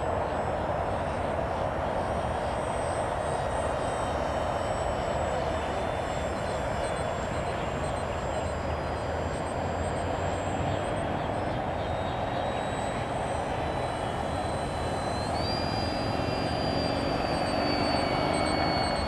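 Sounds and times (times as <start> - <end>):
model plane electric motor whine: 0.0 - 19.0.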